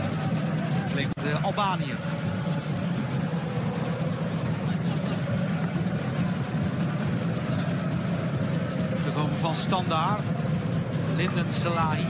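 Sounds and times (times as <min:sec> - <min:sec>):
stadium crowd hubbub: 0:00.0 - 0:12.0.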